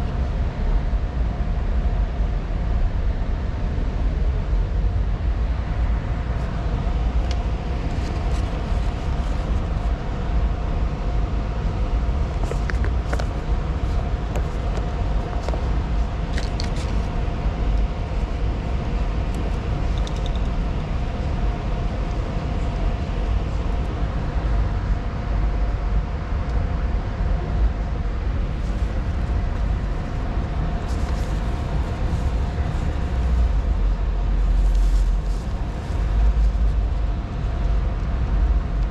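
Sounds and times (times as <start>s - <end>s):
faint hum: 0.0s - 38.9s.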